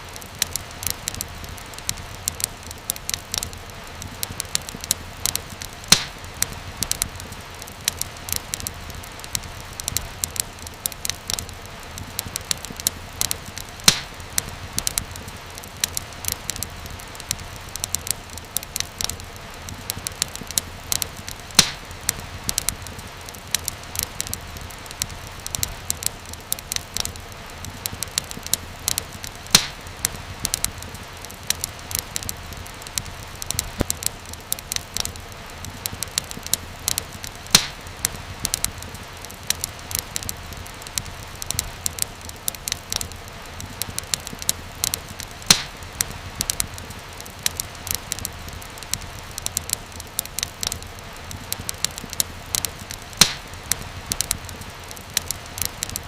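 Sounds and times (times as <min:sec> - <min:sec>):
fire snaps and pops: 0:00.0 - 0:56.0
flames rumbling: 0:00.0 - 0:56.0.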